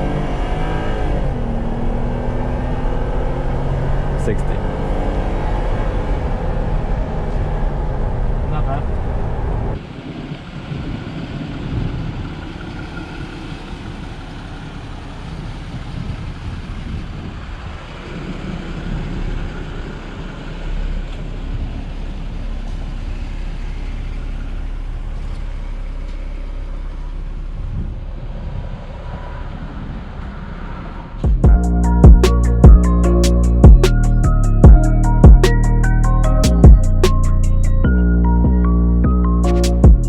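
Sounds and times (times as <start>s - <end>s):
car engine driving: 0.0s - 40.0s
road rumble: 0.0s - 40.0s.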